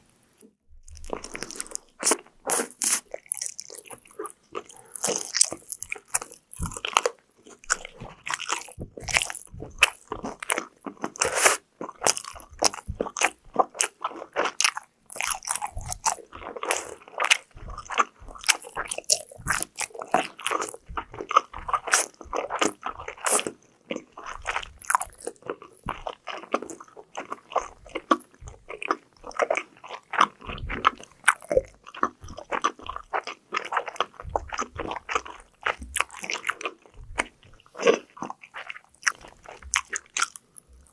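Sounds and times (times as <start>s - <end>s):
crunchy chewing of fried food: 0.8s - 40.9s.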